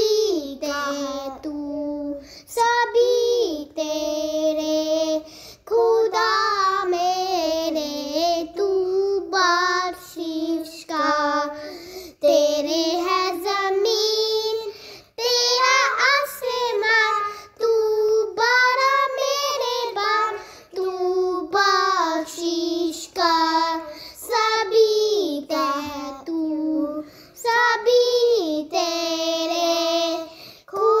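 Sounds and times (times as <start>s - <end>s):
child singing devotional song: 0.0s - 31.0s.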